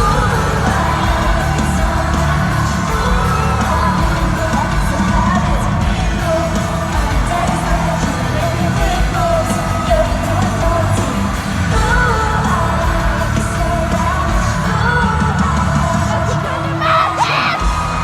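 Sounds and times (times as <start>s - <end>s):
audience yelling: 0.0s - 18.0s
live pop music with bass beat: 0.0s - 18.0s
woman singing: 0.0s - 18.0s.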